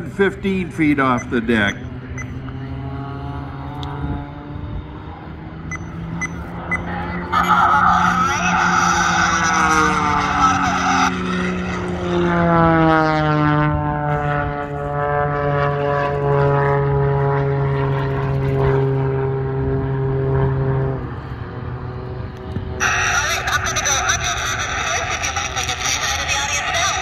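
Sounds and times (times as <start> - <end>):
propeller plane engine passing: 0.0 - 27.0.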